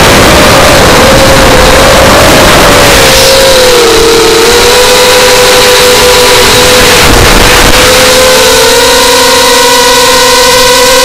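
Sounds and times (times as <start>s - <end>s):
rushing air hiss: 0.0s - 10.8s
drone propellers whining: 0.0s - 11.0s.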